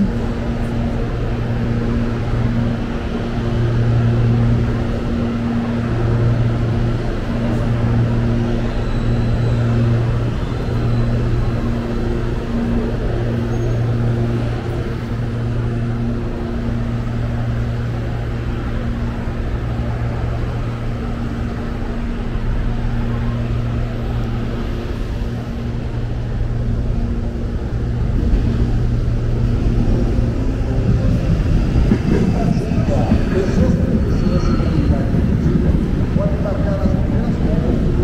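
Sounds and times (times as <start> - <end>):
electric train humming: 0.0 - 38.0
station noise: 0.0 - 38.0.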